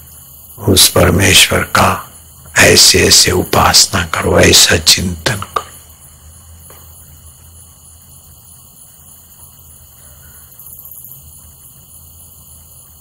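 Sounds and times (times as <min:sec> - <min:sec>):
low hum with faint hiss: 0:00.0 - 0:13.0.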